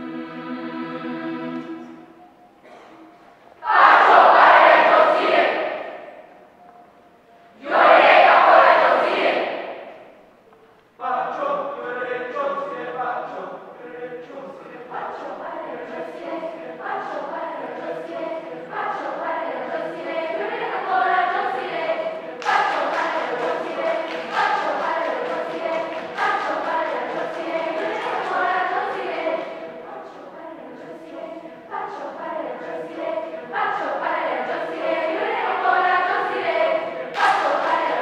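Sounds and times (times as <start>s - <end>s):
choir singing a cappella: 0.0s - 2.9s, 3.6s - 6.5s, 7.5s - 10.2s, 11.2s - 38.0s.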